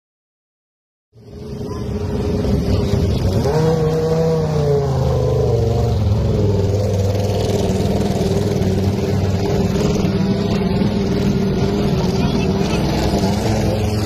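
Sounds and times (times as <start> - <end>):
car engine revving: 1.2 - 14.0.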